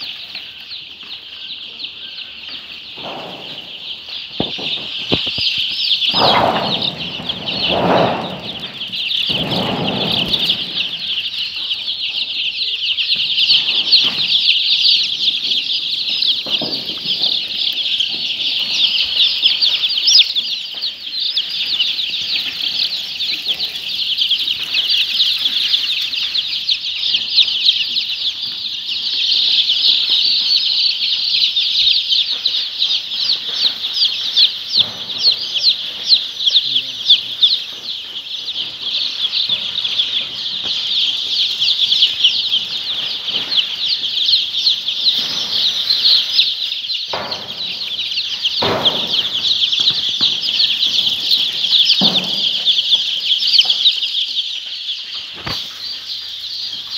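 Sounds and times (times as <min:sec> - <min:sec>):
flock of chickens calling: 0:00.0 - 0:56.9.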